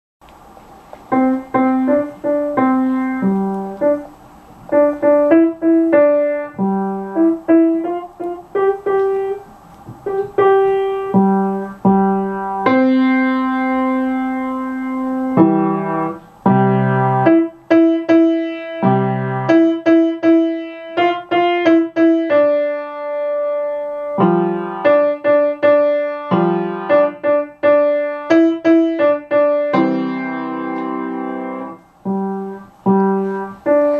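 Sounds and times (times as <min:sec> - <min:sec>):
simple piano melody: 0:00.2 - 0:33.9.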